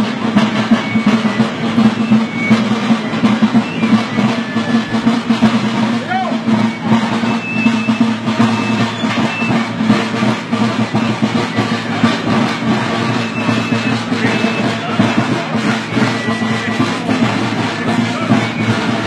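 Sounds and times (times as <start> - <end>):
band music with drums: 0.0 - 19.0.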